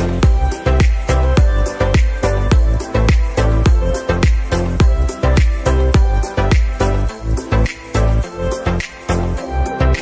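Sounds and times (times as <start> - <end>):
fast beat music with heavy bass: 0.0 - 10.0.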